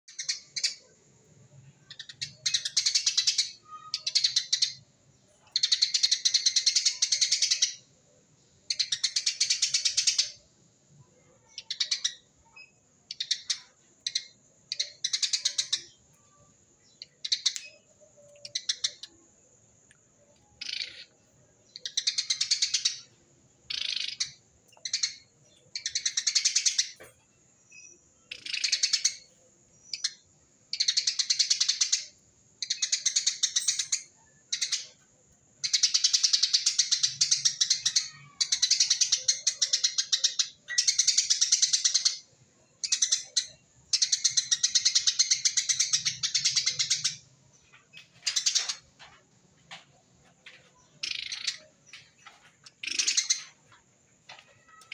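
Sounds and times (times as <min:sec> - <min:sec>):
sparrow chattering song: 0:00.0 - 0:10.5, 0:11.1 - 0:54.9.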